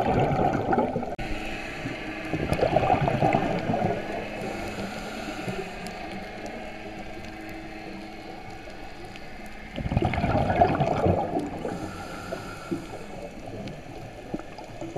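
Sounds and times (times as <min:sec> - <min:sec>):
exhaled bubbles from regulator: 0:00.0 - 0:07.6, 0:09.6 - 0:14.9
underwater background noise: 0:00.0 - 0:14.9.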